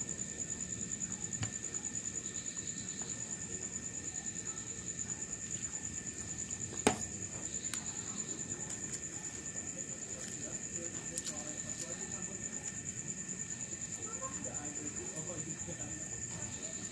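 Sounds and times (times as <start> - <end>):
crickets chirring: 0.0 - 16.9.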